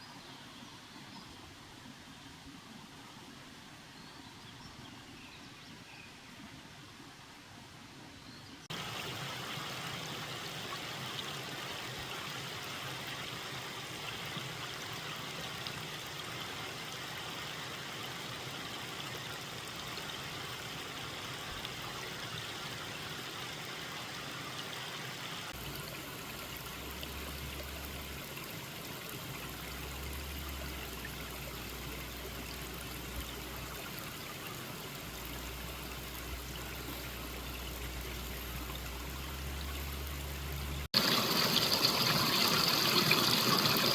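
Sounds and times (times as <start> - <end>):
stream flowing: 8.7 - 43.9.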